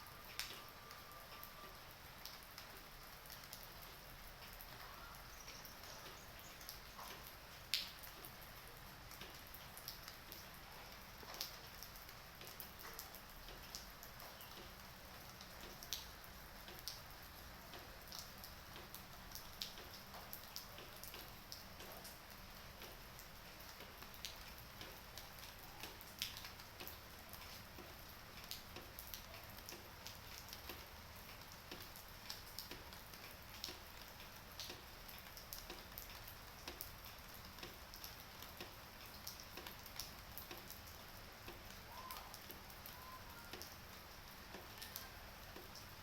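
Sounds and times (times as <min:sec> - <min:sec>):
light rain falling: 0:00.0 - 0:46.0.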